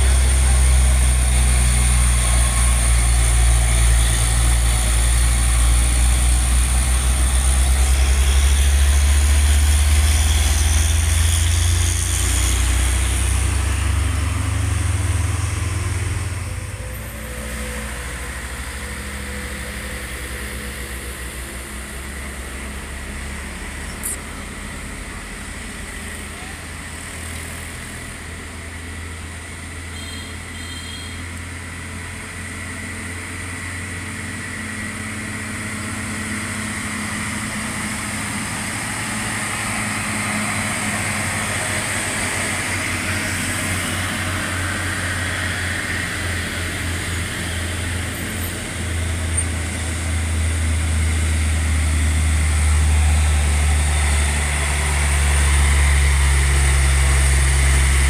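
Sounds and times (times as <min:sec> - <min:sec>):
diesel trucks climbing a hill: 0:00.0 - 0:58.0.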